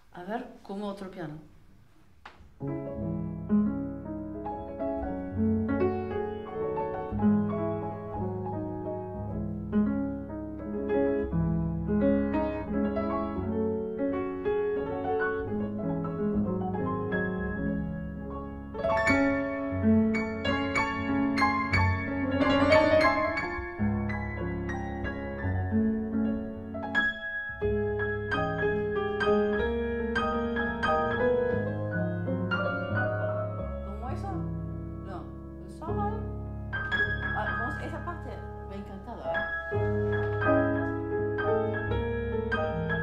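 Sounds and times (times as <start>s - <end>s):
two pianos playing classical piece: 2.4s - 43.0s.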